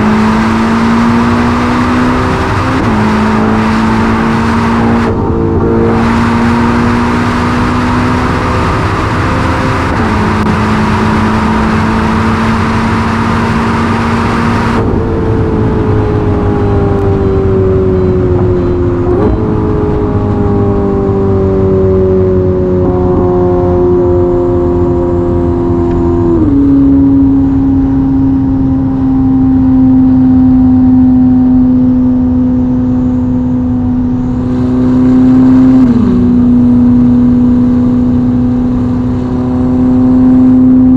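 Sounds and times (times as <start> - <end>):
car engine drone with gear changes: 0.0 - 40.9
wind and road rush: 0.0 - 40.9.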